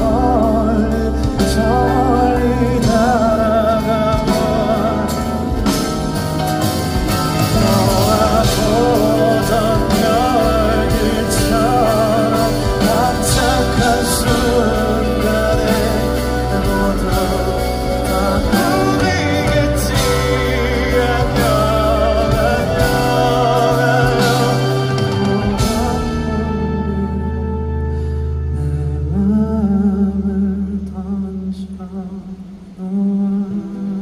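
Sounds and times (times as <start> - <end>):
live band music: 0.0 - 30.6
drums: 0.0 - 34.0
person singing: 0.0 - 34.0.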